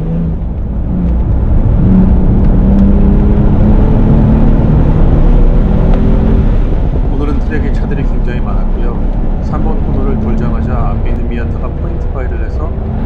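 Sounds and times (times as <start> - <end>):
car engine accelerating hard: 0.0 - 13.0
wind and road noise: 0.0 - 13.0.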